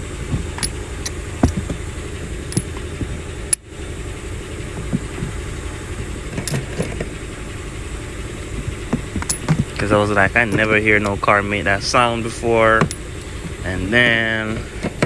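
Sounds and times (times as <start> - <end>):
metal canisters clinking: 0.0 - 3.6, 4.6 - 15.0
steady low hum: 0.0 - 15.0.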